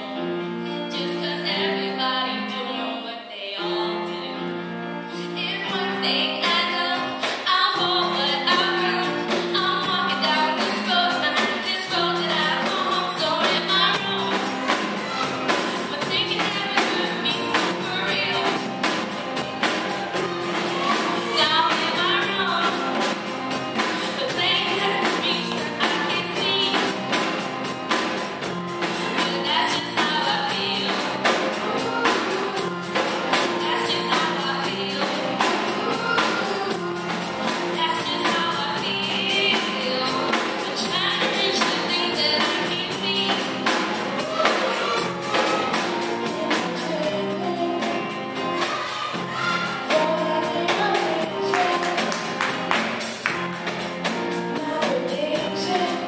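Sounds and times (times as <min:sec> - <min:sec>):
live band playing: 0:00.0 - 0:02.0, 0:03.6 - 0:56.0
person singing: 0:05.2 - 0:27.3, 0:28.8 - 0:52.8, 0:54.2 - 0:56.0.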